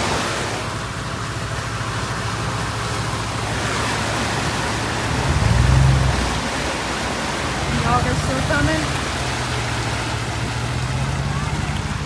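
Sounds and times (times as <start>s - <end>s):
creek water rushing: 0.0s - 12.0s
vehicle engine humming: 0.0s - 12.0s.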